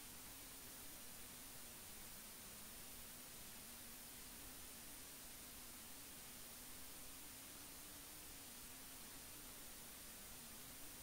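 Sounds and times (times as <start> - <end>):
faint high whine: 0.0 - 11.0
faint low hum: 0.0 - 11.0
recording hiss: 0.0 - 11.0.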